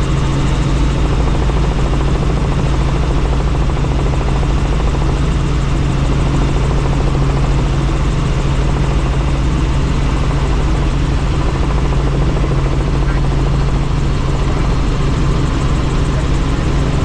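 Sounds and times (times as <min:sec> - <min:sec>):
helicopter rotor and turbine noise: 0:00.0 - 0:17.0.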